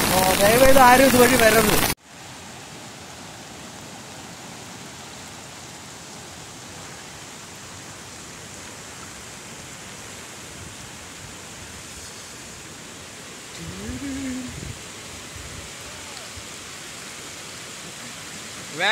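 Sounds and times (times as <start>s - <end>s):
floodwater rushing: 0.0s - 18.9s.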